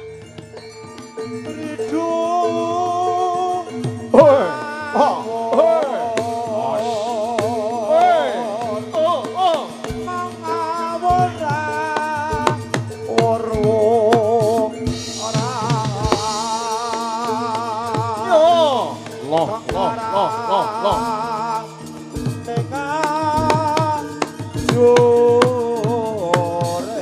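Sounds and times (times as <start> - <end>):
drum strokes: 0.0 - 27.0
gamelan music: 0.0 - 27.0
wavering melody line: 0.0 - 27.0.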